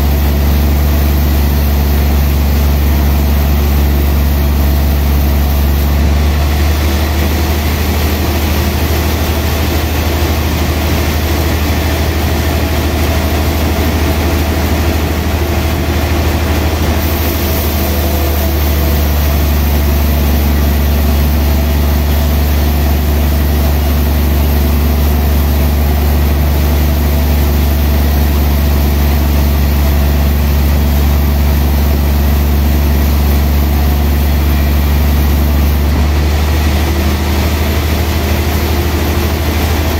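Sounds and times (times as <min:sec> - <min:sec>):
band sawmill sawing log: 0:00.0 - 0:39.9.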